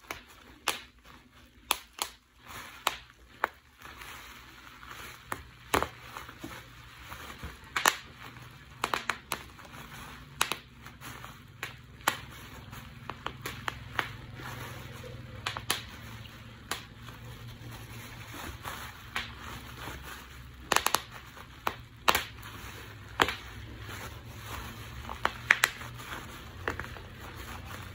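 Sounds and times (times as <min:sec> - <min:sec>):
bubble wrap popping: 0:00.0 - 0:27.9
plastic film crinkling: 0:00.0 - 0:27.9.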